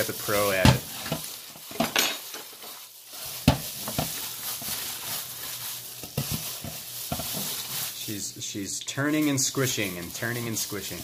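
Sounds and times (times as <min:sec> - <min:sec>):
gloved hands squishing filling: 0:00.0 - 0:01.8, 0:02.5 - 0:11.0.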